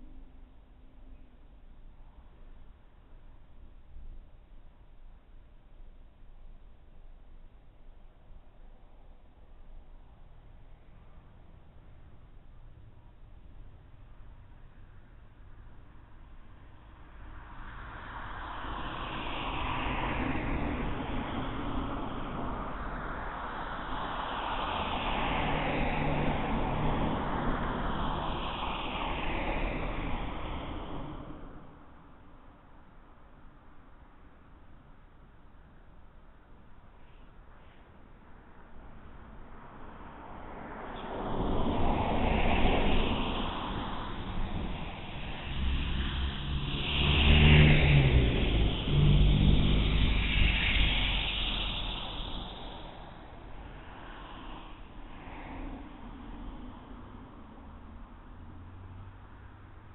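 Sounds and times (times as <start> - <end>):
low engine hum: 0.0 - 33.5, 38.0 - 59.9
road traffic passing: 9.8 - 59.9.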